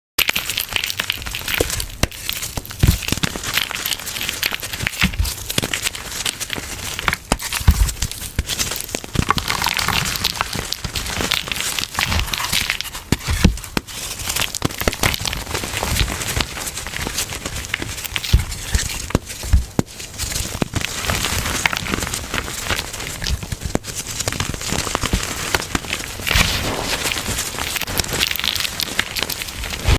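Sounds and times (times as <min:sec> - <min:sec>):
crumbles crunching: 0:00.2 - 0:29.9.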